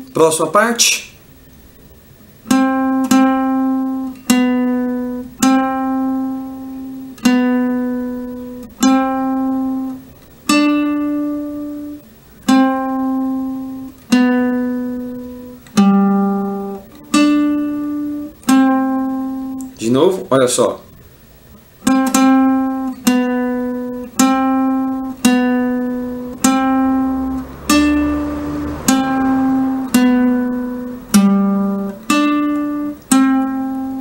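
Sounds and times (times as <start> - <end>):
classical guitar melody: 2.2 - 20.2, 21.5 - 34.0.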